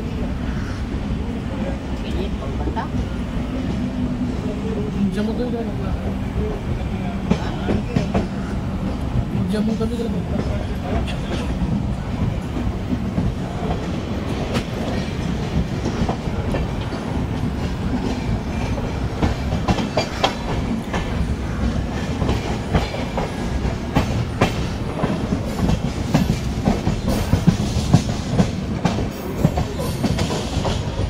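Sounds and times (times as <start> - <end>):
train coaches rumbling: 0.0 - 31.0.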